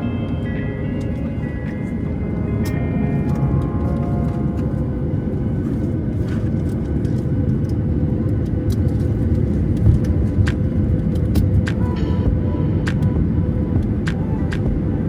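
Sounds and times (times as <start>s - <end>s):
engine and airflow rumble: 0.0s - 15.0s.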